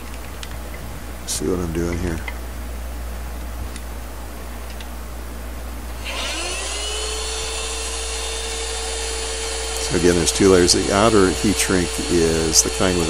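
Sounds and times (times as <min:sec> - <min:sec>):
heat gun fan whine: 0:00.0 - 0:13.0.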